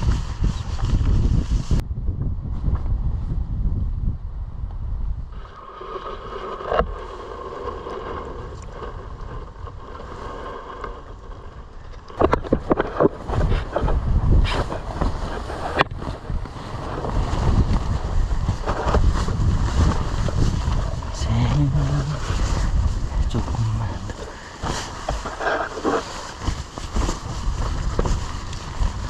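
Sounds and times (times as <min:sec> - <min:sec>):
wind gusting on microphone: 0:00.0 - 0:29.0.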